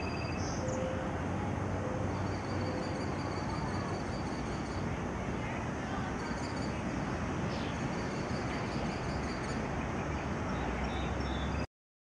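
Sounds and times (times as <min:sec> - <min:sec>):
small birds chirping: 0:00.0 - 0:01.1, 0:01.9 - 0:11.7
low noisy rumble: 0:00.0 - 0:11.7.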